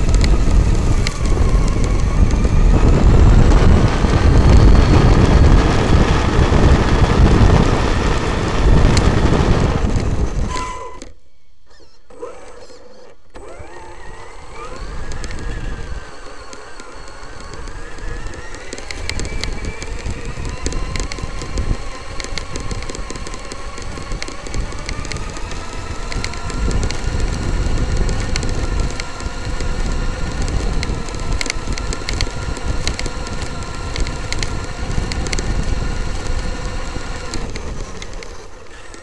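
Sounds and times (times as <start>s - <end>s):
tyres and chassis rumbling: 0.0s - 11.2s, 13.1s - 39.0s
electric motor whining: 0.0s - 39.0s
sharp clicks: 0.0s - 39.0s.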